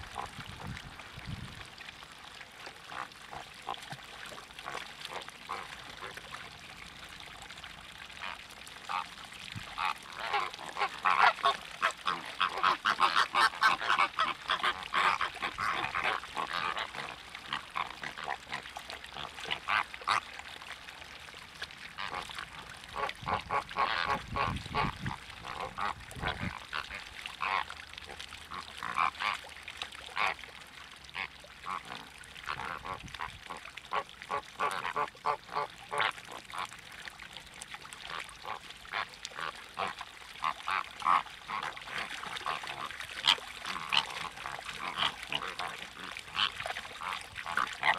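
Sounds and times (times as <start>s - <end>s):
waterbirds calling: 1.8s - 47.9s.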